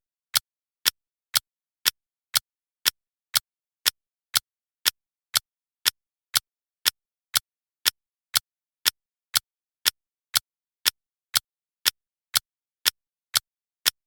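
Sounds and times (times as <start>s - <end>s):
clock ticking: 0.0s - 14.0s.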